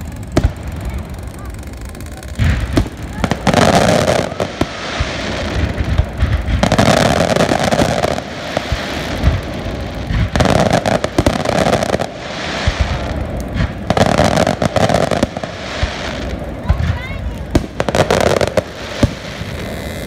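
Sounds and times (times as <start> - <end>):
crackling pops of fireworks: 0.0 - 20.0
fireworks shells bursting: 0.0 - 20.0.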